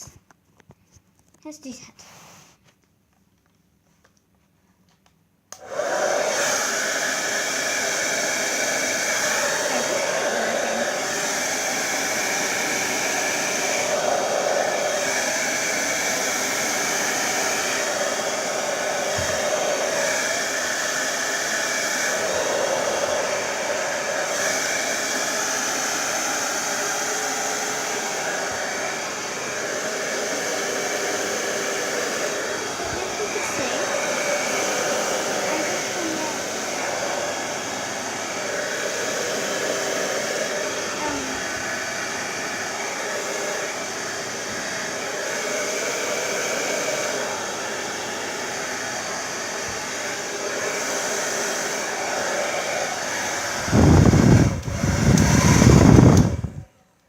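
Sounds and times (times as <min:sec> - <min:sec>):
hairdryer blowing: 0:05.5 - 0:57.0.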